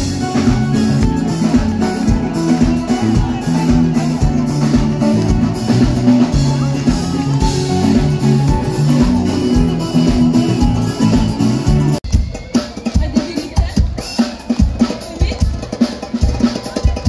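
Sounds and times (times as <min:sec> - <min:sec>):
live band music over loudspeakers: 0:00.0 - 0:17.0.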